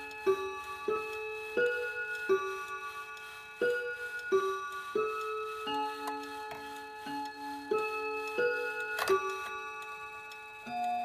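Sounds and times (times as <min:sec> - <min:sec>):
wall clock chiming: 0:00.0 - 0:11.0.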